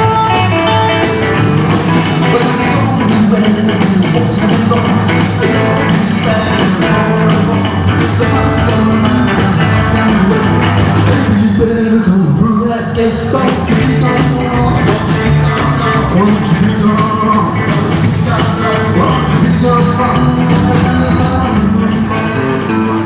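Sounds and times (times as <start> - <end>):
drum kit beat: 0.0 - 23.0
electric guitar: 0.0 - 23.0
man singing: 0.0 - 23.0.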